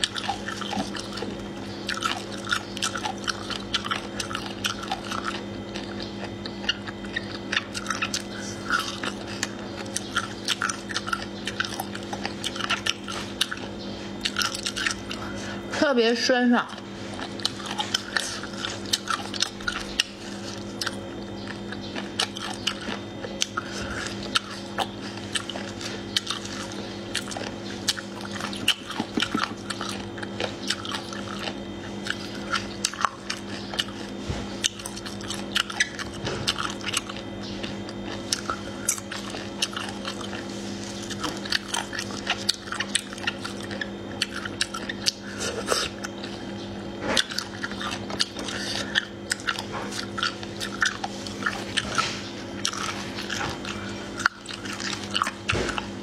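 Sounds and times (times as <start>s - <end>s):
wet chewing and mouth clicks: 0.0s - 15.7s, 16.6s - 56.0s
steady low hum: 0.0s - 56.0s.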